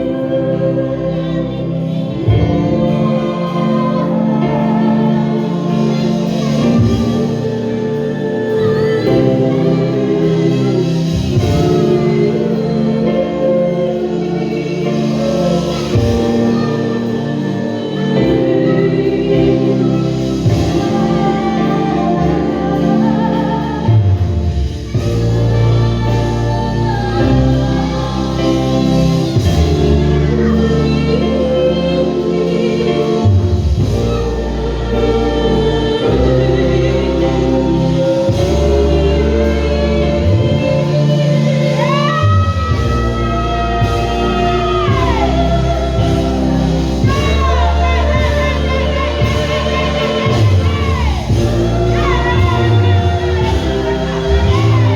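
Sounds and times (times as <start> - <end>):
deep bass notes: 0.0 - 54.9
people singing: 0.0 - 54.9
sustained chords: 0.0 - 54.9.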